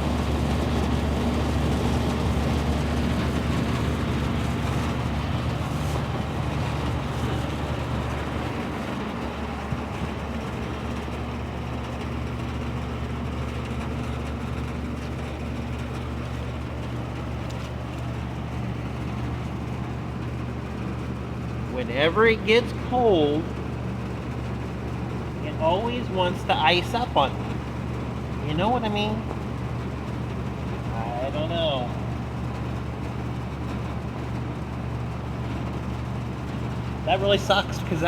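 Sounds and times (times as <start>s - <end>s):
heat pump compressor and fan humming: 0.0s - 38.0s.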